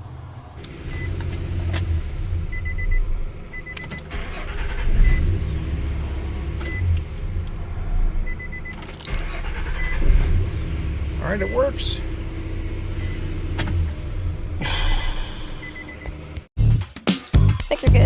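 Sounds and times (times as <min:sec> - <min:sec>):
pickup engine starting and running: 0:00.0 - 0:16.5.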